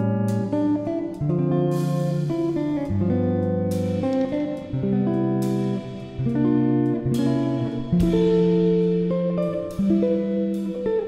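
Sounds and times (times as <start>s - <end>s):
plucked guitar chords: 0.0s - 11.0s.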